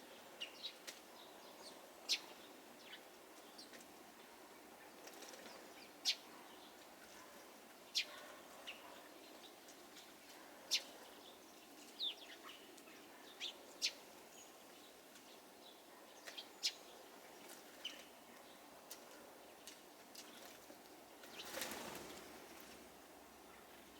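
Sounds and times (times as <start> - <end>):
small birds chirping: 0.0 - 22.8
faint outdoor hiss: 0.0 - 23.9.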